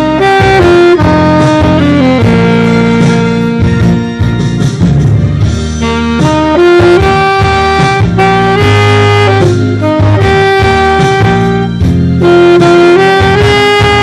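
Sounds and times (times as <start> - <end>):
backing track with bass line: 0.0 - 14.0
saxophone slow melody: 0.0 - 14.0.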